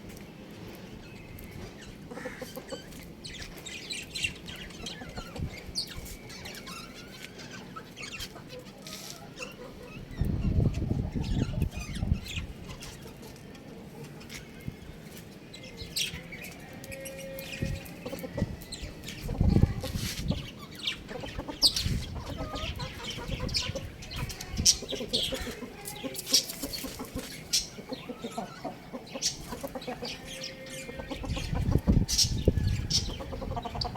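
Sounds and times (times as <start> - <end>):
chickens clucking: 1.3 - 33.9.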